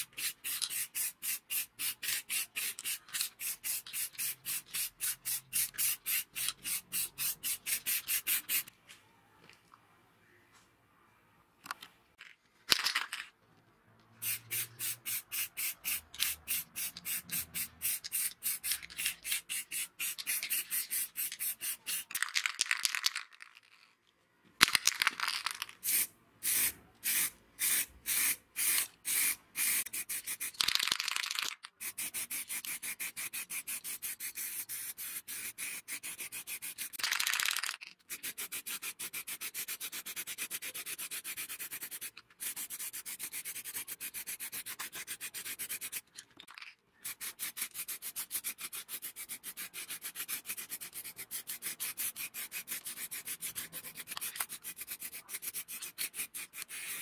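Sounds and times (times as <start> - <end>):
spray can hissing bursts: 0.0 - 8.7, 14.2 - 22.1, 25.8 - 37.5, 38.1 - 46.0, 47.0 - 57.0.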